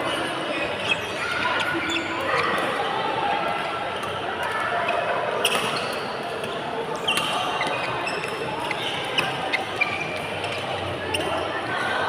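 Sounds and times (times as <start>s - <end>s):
shoes squeaking on court: 0.0s - 3.2s, 4.8s - 11.7s
murmur of voices: 0.0s - 12.0s.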